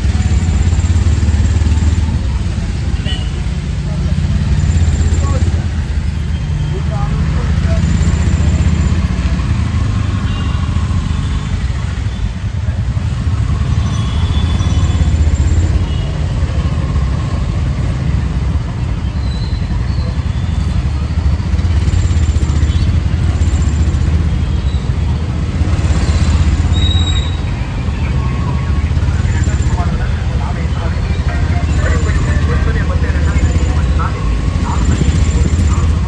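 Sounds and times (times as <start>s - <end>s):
traffic on wet road: 0.0s - 36.0s.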